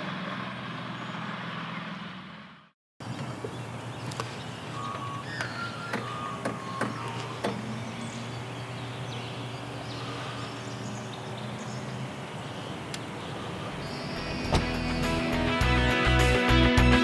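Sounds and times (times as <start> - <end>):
steady engine hum: 0.0 - 15.7.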